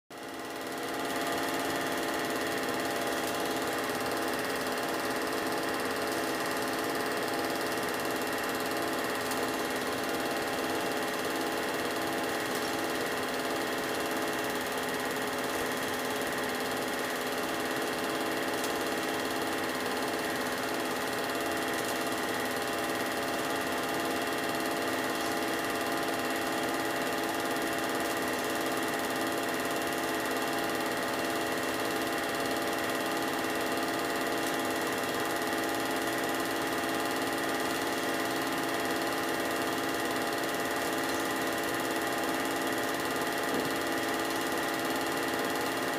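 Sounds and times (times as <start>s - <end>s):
film projector running: 0.1s - 45.9s.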